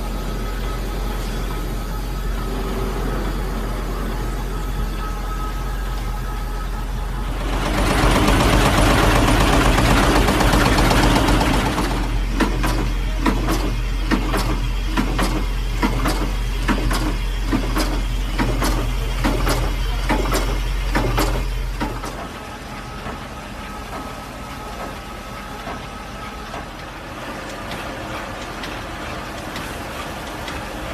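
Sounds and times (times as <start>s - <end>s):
test stand machine humming: 0.0s - 30.9s.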